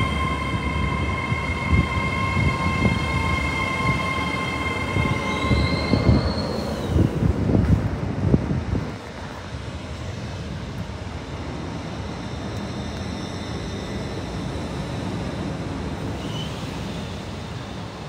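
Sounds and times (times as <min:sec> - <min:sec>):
train low rumble and hum: 0:00.0 - 0:18.0.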